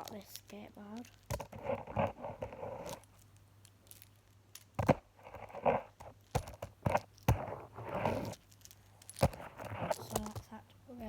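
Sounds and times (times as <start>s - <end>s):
rustling and scraping: 0.0s - 11.0s.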